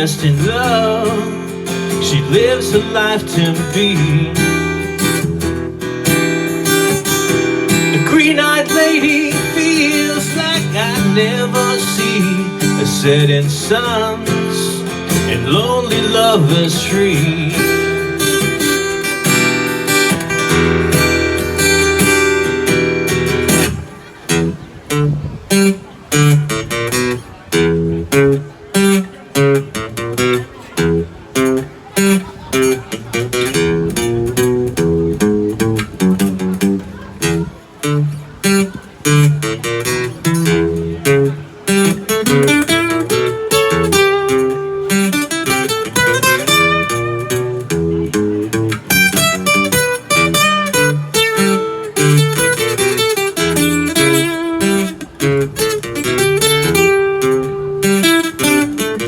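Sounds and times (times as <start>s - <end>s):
instrumental guitar music: 0.0s - 59.0s.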